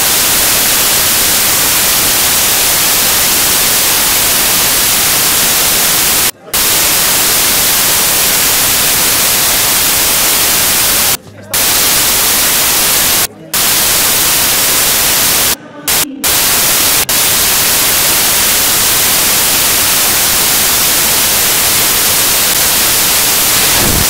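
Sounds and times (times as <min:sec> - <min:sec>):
loud static hiss: 0:00.0 - 0:24.0.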